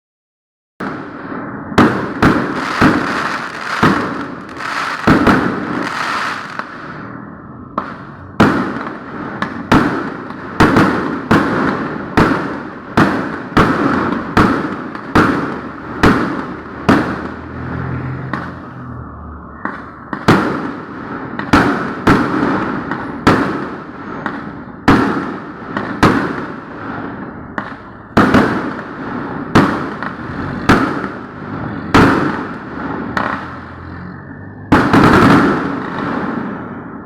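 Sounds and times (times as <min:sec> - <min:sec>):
fireworks bangs: 0:00.8 - 0:17.4, 0:19.6 - 0:33.5, 0:34.7 - 0:37.0.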